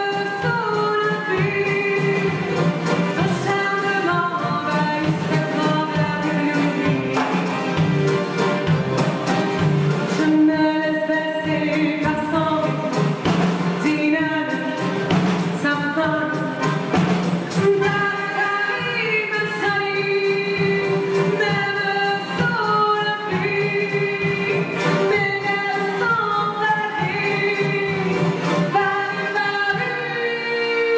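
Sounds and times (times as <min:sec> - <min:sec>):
band accompaniment with beat: 0:00.0 - 0:30.9.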